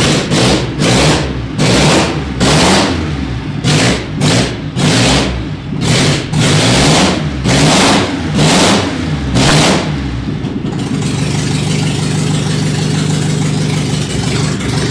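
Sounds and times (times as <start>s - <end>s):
engine revving and idling: 0.0s - 14.9s.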